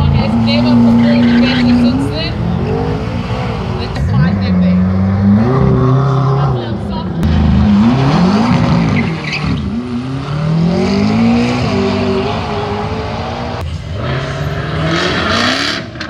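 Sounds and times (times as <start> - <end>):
sports car engines revving: 0.0 - 16.0.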